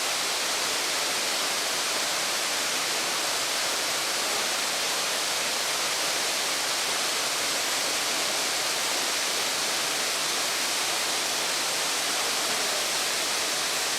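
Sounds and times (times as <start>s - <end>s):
waterfall rushing: 0.0s - 13.9s.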